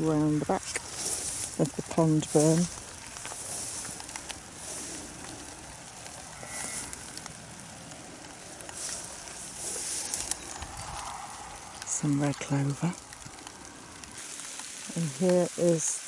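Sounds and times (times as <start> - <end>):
rain falling on grass: 0.0 - 16.0.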